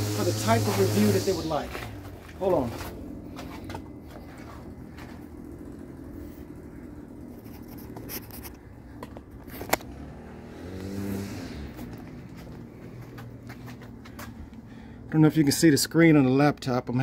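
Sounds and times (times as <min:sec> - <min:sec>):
low mechanical hum: 0:00.0 - 0:15.2.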